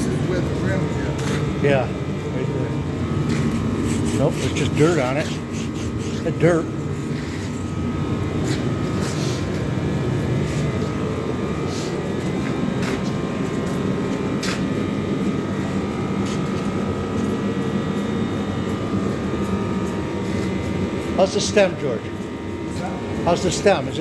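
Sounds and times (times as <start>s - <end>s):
machine drone: 0.0s - 24.0s.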